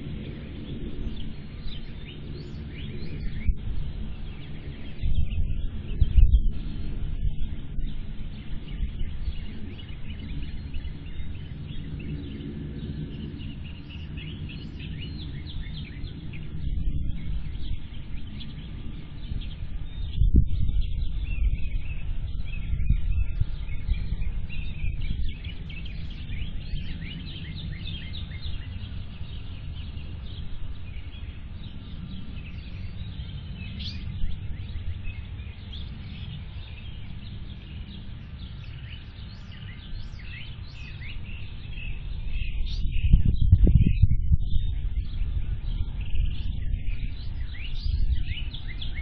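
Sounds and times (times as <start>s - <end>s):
low outdoor rumble: 0.0s - 49.0s
small birds chirping: 0.0s - 49.0s.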